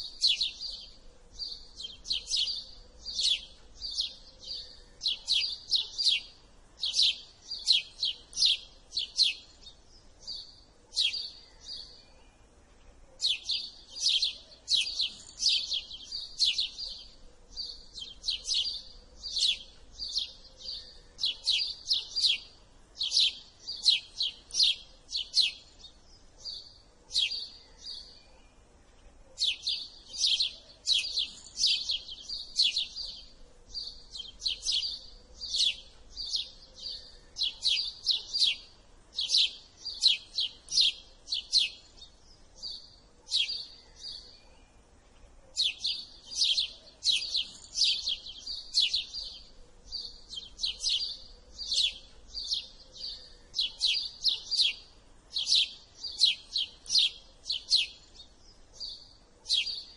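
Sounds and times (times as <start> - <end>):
sparrow chirping: 0.0 - 59.9.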